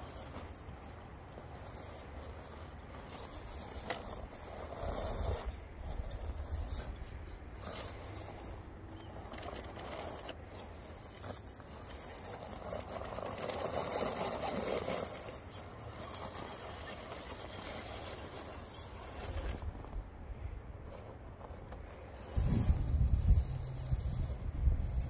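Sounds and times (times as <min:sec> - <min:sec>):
electric drivetrain whirring: 0:00.0 - 0:20.1, 0:20.8 - 0:25.0.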